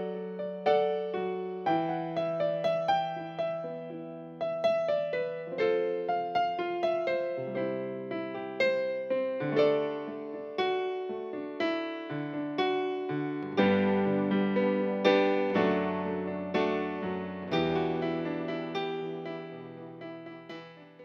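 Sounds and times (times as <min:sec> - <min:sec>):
electric piano slow melody: 0:00.0 - 0:21.0.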